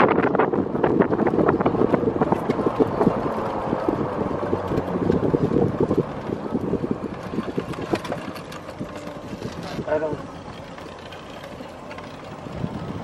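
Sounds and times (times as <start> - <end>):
vehicle hum: 0.0 - 13.0
wind buffeting microphone: 0.0 - 13.0.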